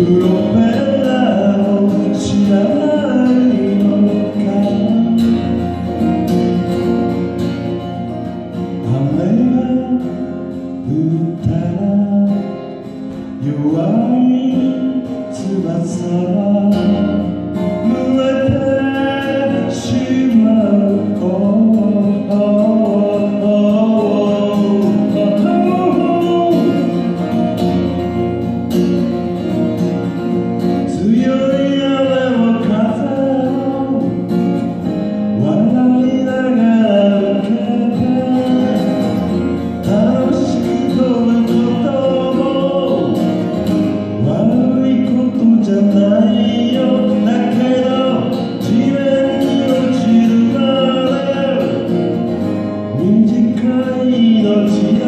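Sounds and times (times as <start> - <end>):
man singing: 0.0 - 7.1, 8.5 - 27.9, 30.4 - 55.0
acoustic guitar strumming: 0.0 - 55.0.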